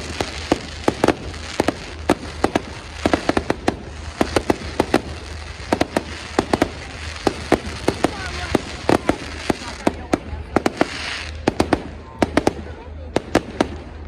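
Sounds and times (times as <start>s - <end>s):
fireworks bangs and pops: 0.0s - 14.0s.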